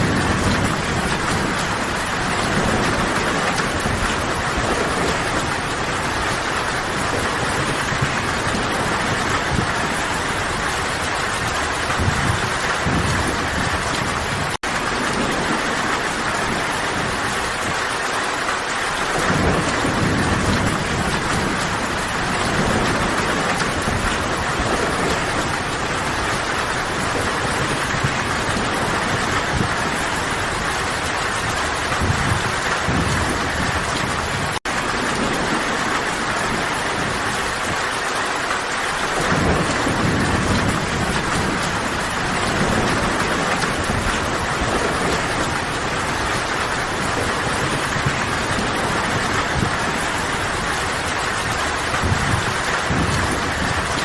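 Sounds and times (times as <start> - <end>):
low thunder rumbles: 0.0 - 54.0
rain falling on foliage: 0.0 - 54.0.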